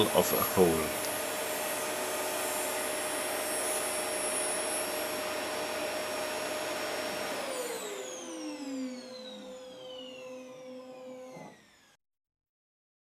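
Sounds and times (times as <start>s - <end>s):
sawing machine whining: 0.0s - 12.0s.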